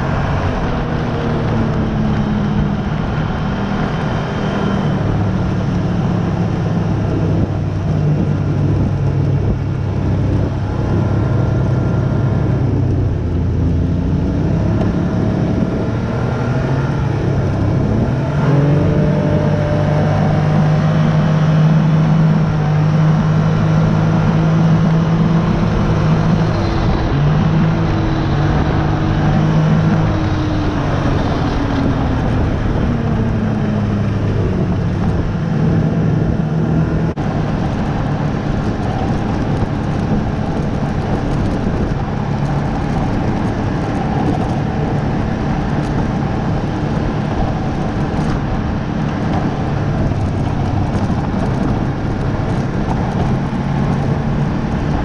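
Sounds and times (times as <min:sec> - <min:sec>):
snowmobile engine running: 0:00.0 - 0:55.0
track noise: 0:00.0 - 0:55.0.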